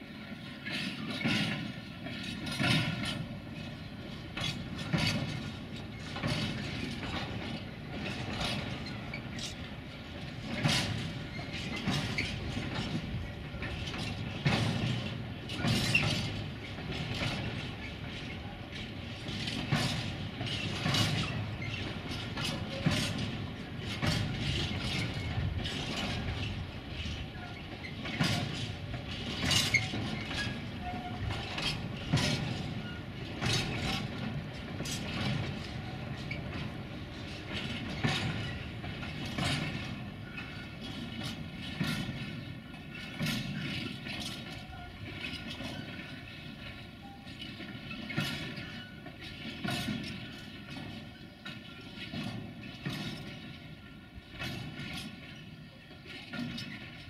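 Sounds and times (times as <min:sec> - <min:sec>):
freight train wheels clanking: 0:00.0 - 0:57.0
low rumble of wagons: 0:00.0 - 0:57.0.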